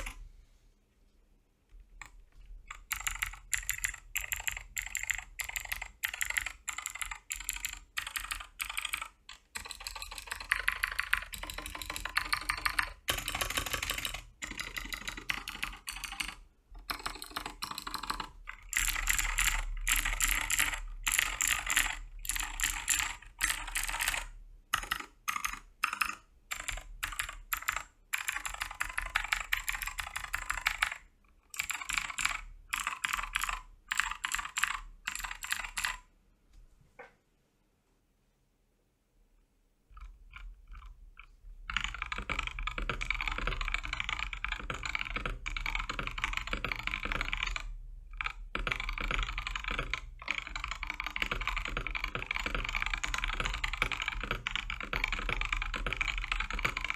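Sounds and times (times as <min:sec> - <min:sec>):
mechanical keyboard typing: 0:00.0 - 0:00.2, 0:01.7 - 0:36.1, 0:39.9 - 0:56.9.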